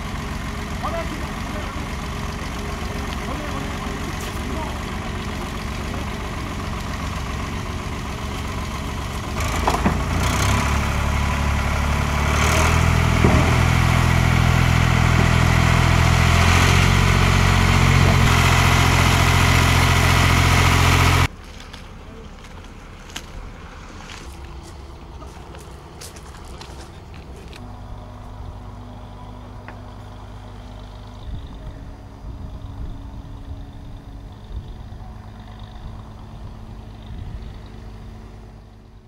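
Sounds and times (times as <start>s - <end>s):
heavy engine running: 0.0s - 39.0s
wind: 0.0s - 39.0s.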